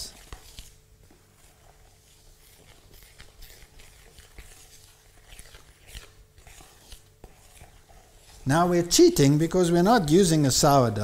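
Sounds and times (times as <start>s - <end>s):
spoon stirring flour in bowl: 0.0s - 11.0s.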